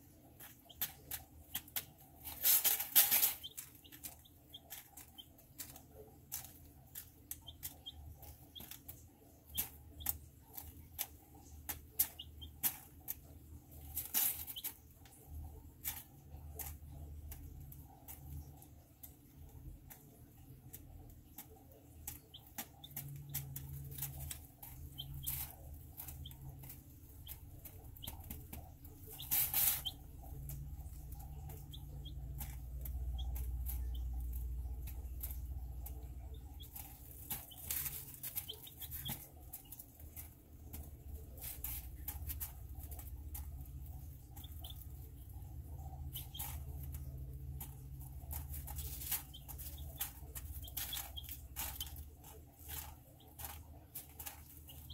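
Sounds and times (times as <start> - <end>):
chicks pecking and scratching: 0.0 - 54.9
chicks peeping: 0.0 - 54.9.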